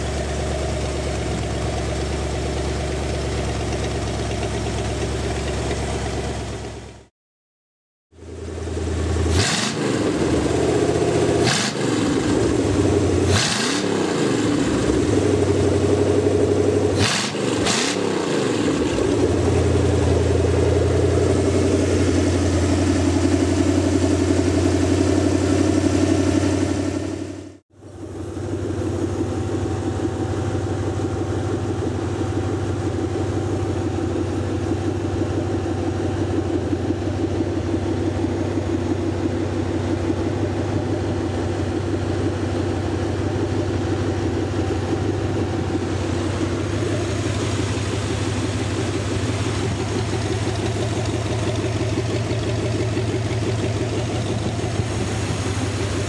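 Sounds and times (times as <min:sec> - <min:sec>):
engine idling smoothly: 0:00.0 - 0:07.1, 0:08.1 - 0:56.0
engine throttle blips: 0:08.2 - 0:56.0.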